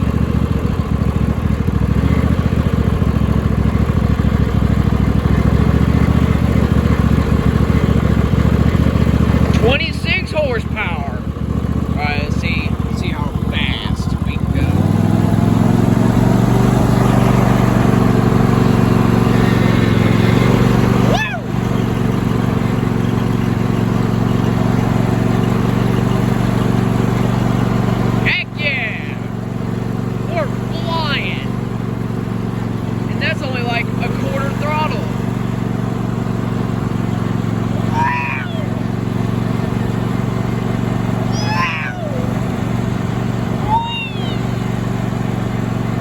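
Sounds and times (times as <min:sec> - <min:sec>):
lawn tractor engine running: 0:00.0 - 0:46.0.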